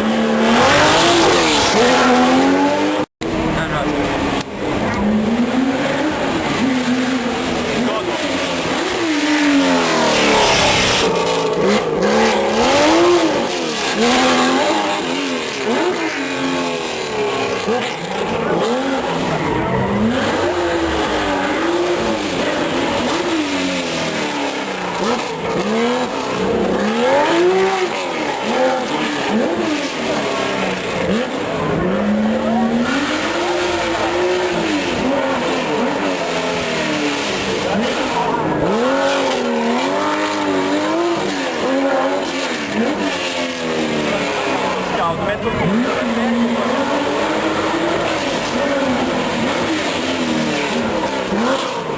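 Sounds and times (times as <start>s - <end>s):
car engine revving hard: 0.0s - 51.9s.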